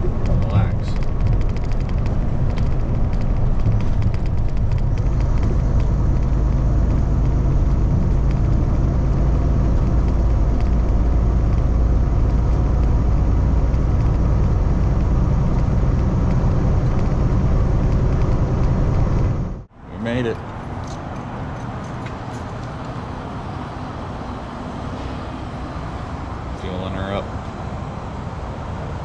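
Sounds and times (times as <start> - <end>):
road and tyre noise: 0.0 - 29.0
truck engine drone: 0.0 - 29.0.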